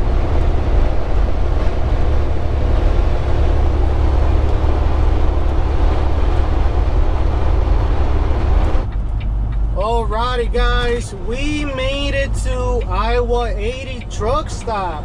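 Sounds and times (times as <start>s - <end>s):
road and wind noise: 0.0s - 15.0s
truck engine hum: 0.0s - 15.0s.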